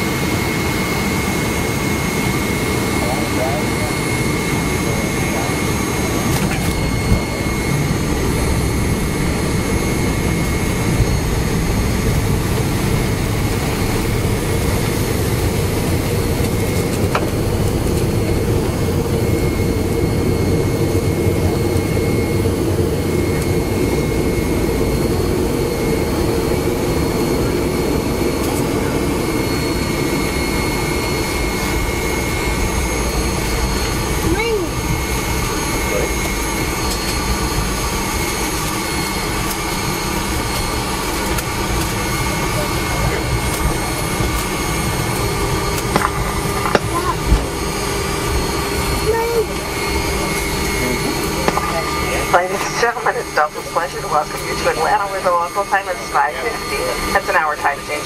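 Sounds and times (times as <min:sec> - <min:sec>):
jet engines idling whine: 0:00.0 - 0:58.0
low rumble: 0:03.0 - 0:38.4, 0:40.3 - 0:53.0.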